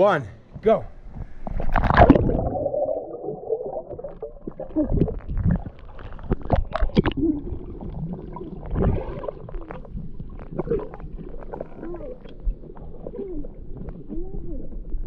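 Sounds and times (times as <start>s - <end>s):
muffled underwater gurgling: 1.5s - 15.0s.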